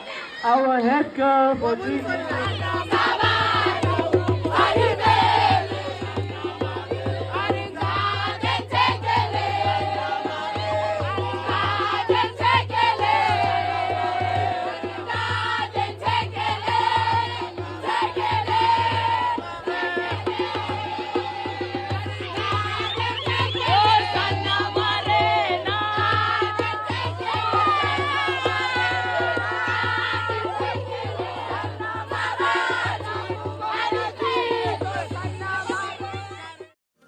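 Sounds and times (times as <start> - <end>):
choral chant-like singing: 0.0 - 36.6.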